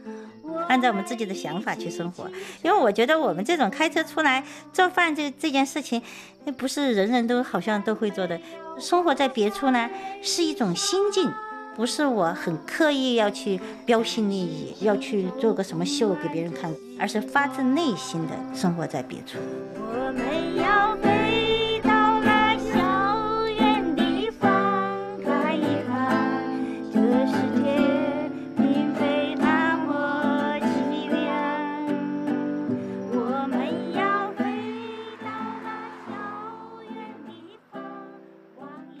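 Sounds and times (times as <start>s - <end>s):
song with singing voice: 7.6s - 39.0s.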